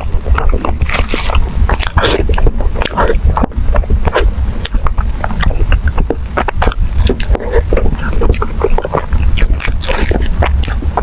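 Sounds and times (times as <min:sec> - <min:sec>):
chewing with wet mouth clicks: 0:00.0 - 0:11.0
steady low rumble: 0:00.0 - 0:11.0.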